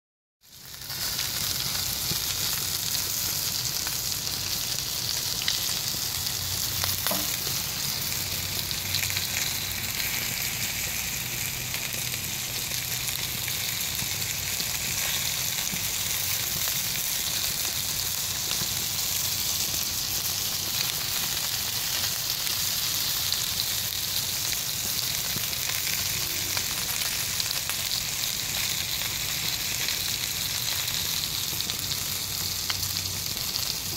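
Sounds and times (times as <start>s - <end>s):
meat sizzling on grill pan: 0.4s - 33.9s.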